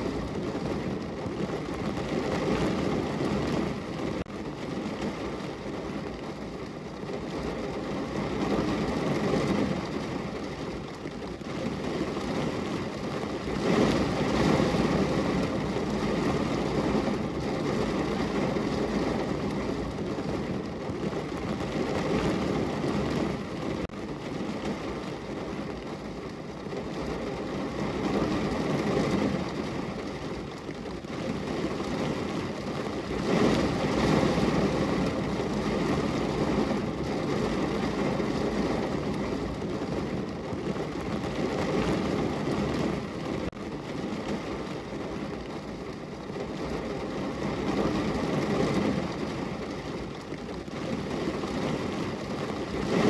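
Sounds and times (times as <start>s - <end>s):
muffled rain through window: 0.0s - 53.0s.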